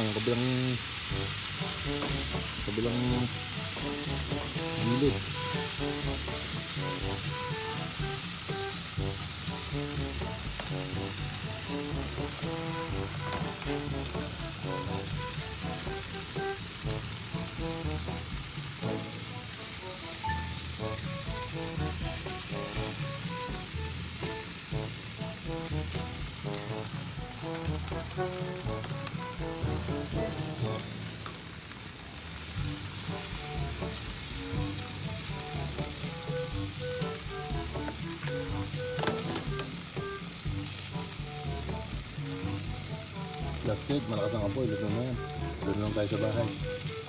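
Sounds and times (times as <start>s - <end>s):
background music: 0.0s - 31.7s, 32.4s - 47.0s
meat sizzling on a grill: 0.0s - 47.0s.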